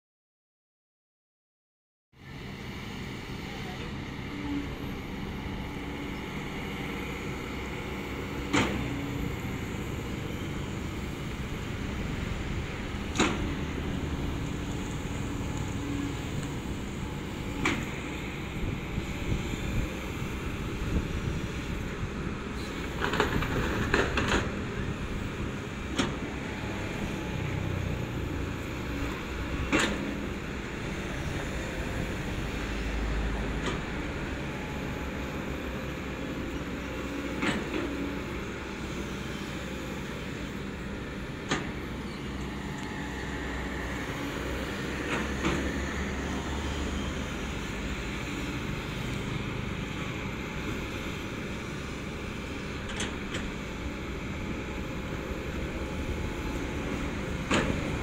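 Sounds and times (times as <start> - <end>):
excavator diesel engine running: 2.2 - 58.0.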